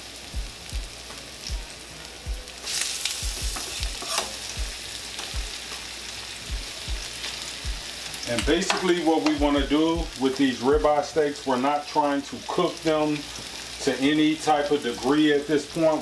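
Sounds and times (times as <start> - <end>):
steak sizzling in oil: 0.0 - 16.0.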